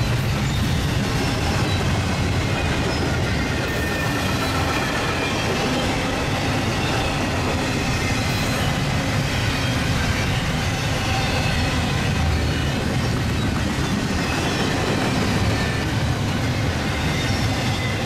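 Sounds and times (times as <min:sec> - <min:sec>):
freight train wheels rumbling and rattling: 0:00.0 - 0:18.0.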